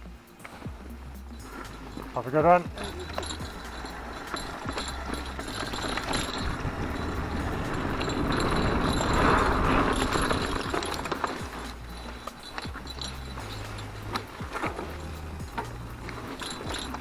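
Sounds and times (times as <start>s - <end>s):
bike rattling and knocking: 0.0s - 17.0s
bike tyres rolling on trail: 0.0s - 17.0s.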